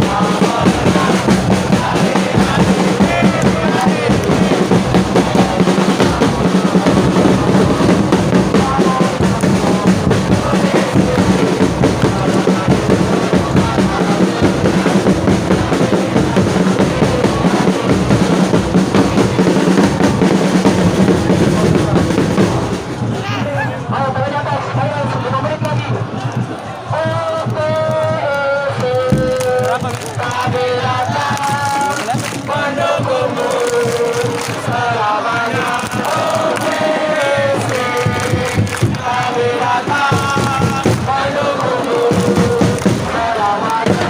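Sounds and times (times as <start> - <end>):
bass drums beating: 0.0 - 44.0
crowd singing a chant: 0.0 - 44.0.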